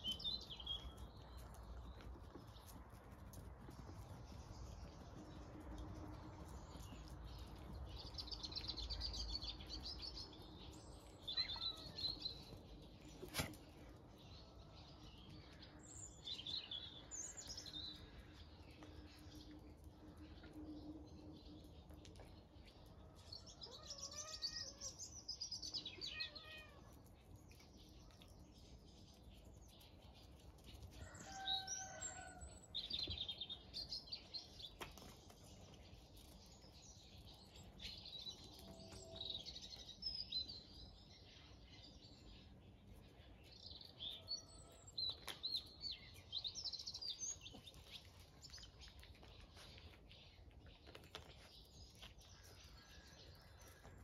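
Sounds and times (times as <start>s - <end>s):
faint birds chirping: 0.0s - 54.0s.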